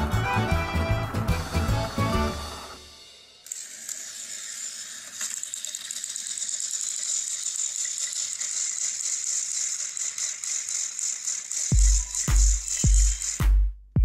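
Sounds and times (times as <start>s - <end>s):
toy train motors whirring: 1.4s - 13.4s.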